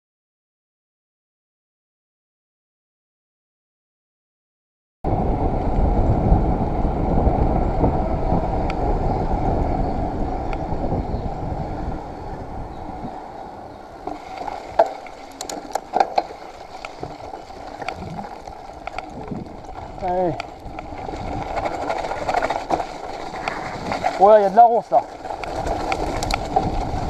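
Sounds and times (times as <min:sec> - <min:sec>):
mountain bike riding rumble: 0:05.1 - 0:27.0.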